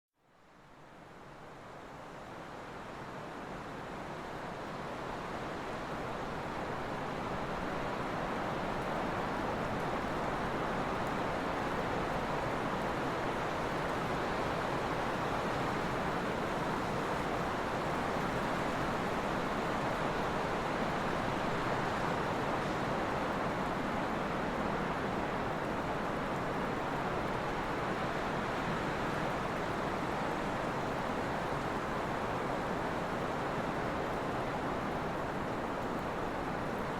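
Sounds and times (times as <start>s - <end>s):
wind blowing steadily: 0.7s - 36.9s.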